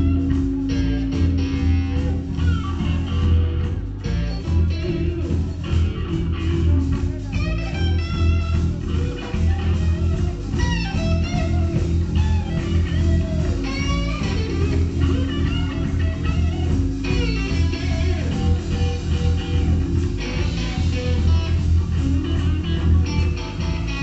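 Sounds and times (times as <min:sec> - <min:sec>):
electric guitar lead phrases: 0:00.0 - 0:24.0
live blues band playing: 0:00.0 - 0:24.0.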